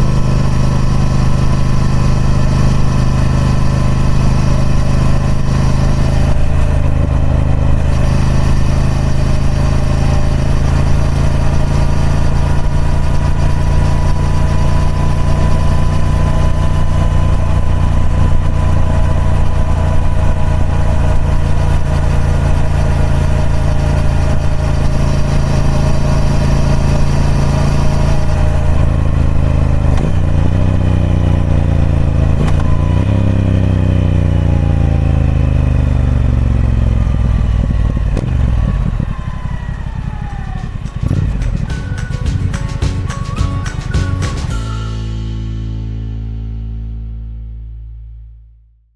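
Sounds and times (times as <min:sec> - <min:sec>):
motorcycle engine running: 0:00.0 - 0:47.5.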